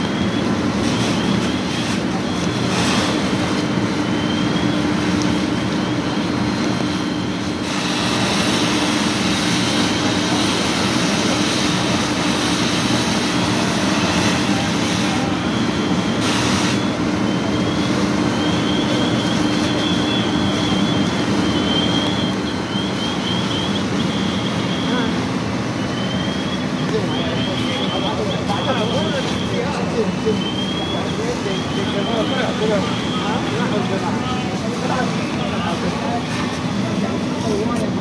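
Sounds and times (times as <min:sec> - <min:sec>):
heavy engine running: 0:00.0 - 0:38.0.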